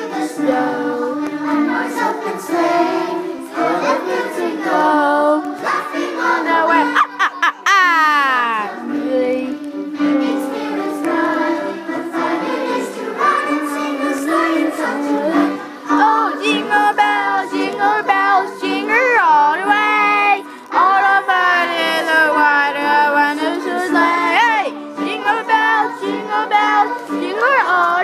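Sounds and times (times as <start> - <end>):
high-pitched singing voice: 0.1 - 12.4, 13.2 - 28.0.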